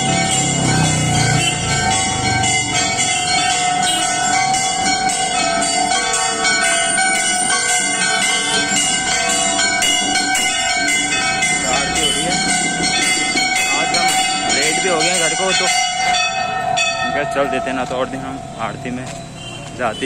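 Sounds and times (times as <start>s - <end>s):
temple bells clanging: 0.0s - 20.0s.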